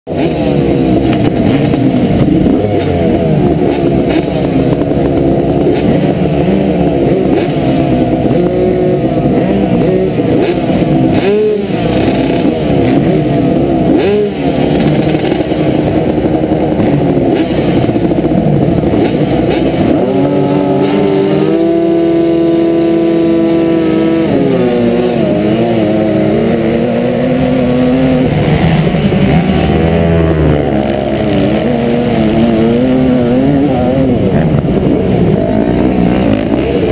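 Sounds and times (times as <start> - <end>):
motorcycle engines revving: 0.0 - 36.9.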